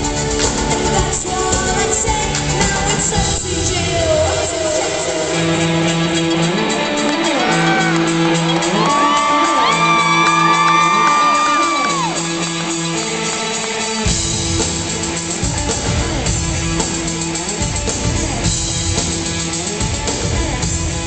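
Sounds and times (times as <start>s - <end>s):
bass: 0.0s - 21.0s
drums: 0.0s - 21.0s
sliding lead guitar lines: 0.0s - 21.0s.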